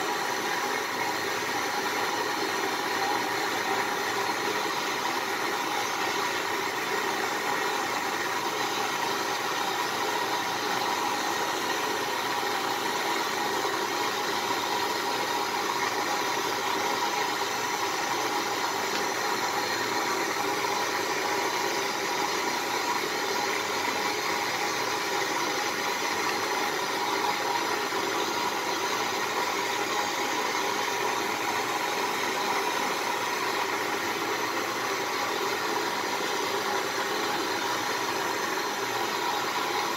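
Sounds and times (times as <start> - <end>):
butane torch flame hissing: 0.0 - 39.9.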